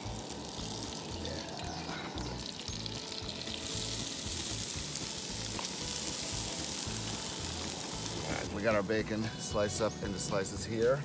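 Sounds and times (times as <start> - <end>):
background music with bass beat: 0.0 - 11.0
hash browns sizzling in hot oil: 0.0 - 11.0.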